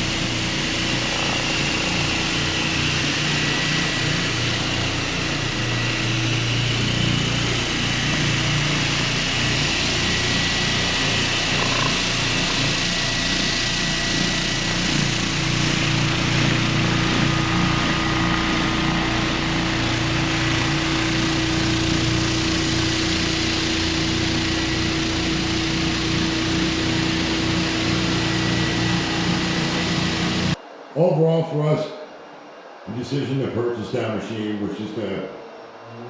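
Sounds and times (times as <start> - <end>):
floor sander running: 0.0 - 30.6.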